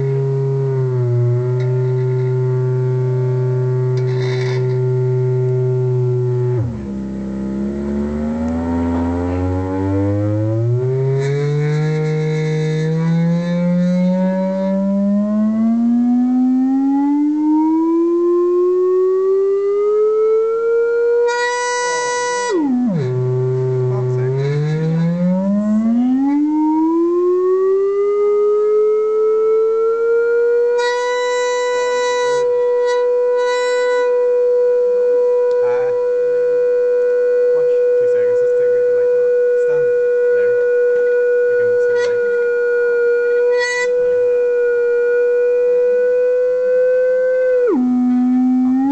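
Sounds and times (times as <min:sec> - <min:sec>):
buzzy electronic test tone sweep: 0:00.0 - 0:48.9.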